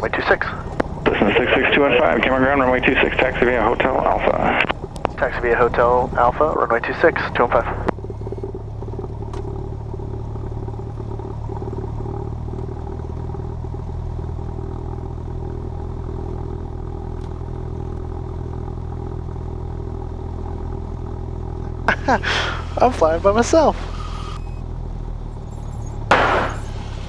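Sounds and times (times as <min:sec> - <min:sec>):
propeller plane engine running: 0:00.0 - 0:27.0.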